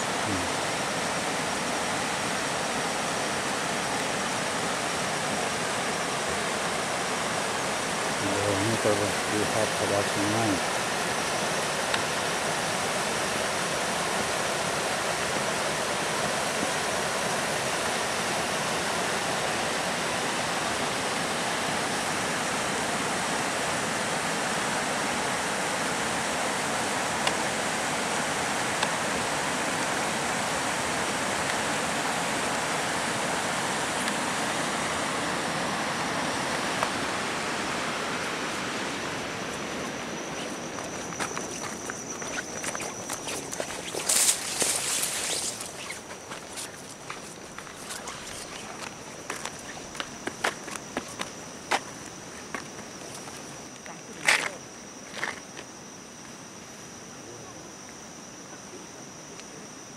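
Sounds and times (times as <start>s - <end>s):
stream rushing over stones: 0.0s - 53.8s.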